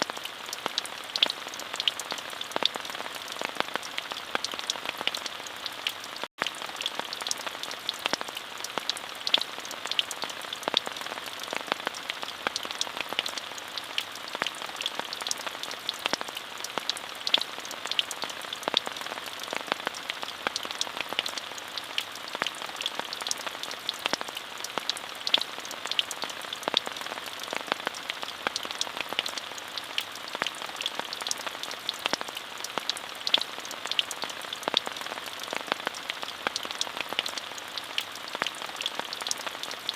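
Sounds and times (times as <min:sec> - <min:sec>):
rain falling: 0:00.0 - 0:39.9
raindrops ticking: 0:00.0 - 0:39.9.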